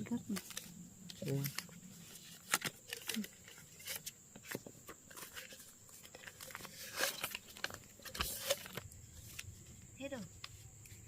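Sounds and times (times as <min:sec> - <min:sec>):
paper banknotes crinkling: 0:00.0 - 0:09.7.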